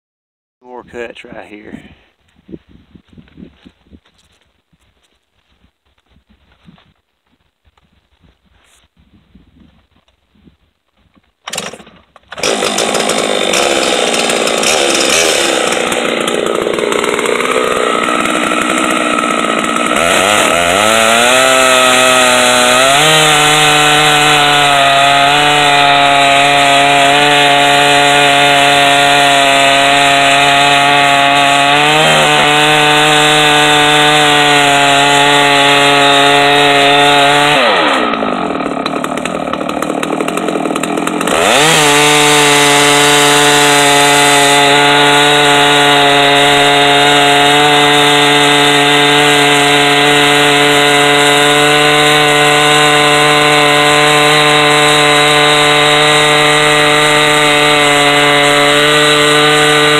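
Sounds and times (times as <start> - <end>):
chainsaw cutting log: 11.1 - 59.9.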